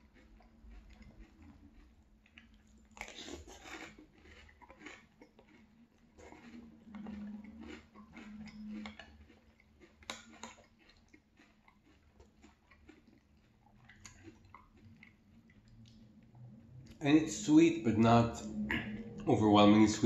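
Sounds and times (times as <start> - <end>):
cereal crunching being chewed: 0.0 - 18.2.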